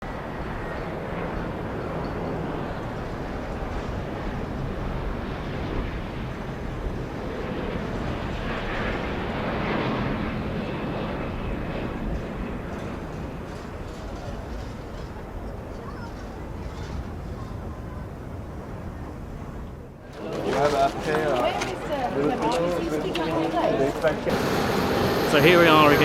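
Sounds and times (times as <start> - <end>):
aircraft engine rush: 0.0 - 26.0.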